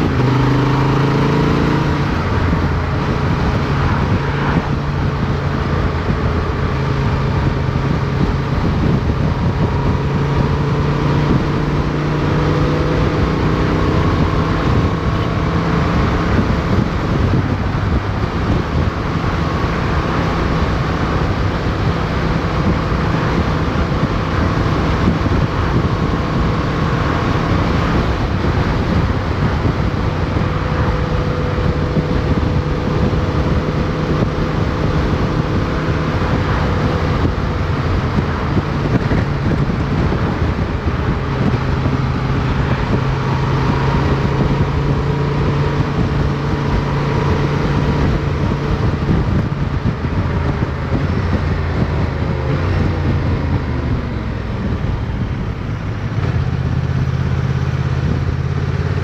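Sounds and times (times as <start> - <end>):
motorcycle engine running: 0.0 - 59.0
road noise: 0.0 - 59.0
wind rush: 0.0 - 59.0.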